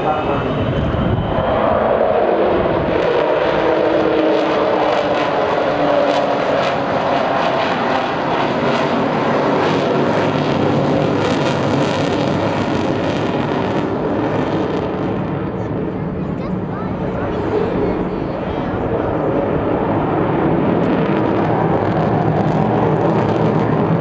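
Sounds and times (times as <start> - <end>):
jet bomber flying past: 0.0 - 24.0.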